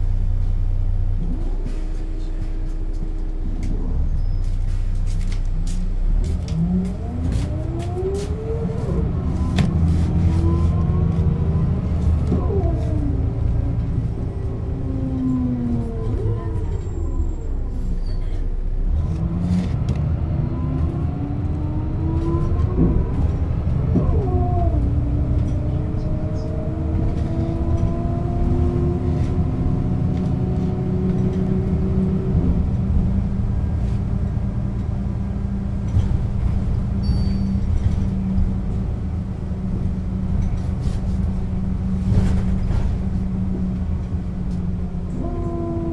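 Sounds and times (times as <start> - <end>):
bus diesel engine whine: 0.0 - 45.9.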